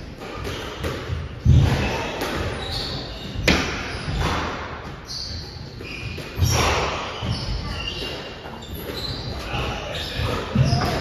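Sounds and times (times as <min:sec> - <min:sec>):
shoes squeaking on court floor: 0:00.2 - 0:11.0.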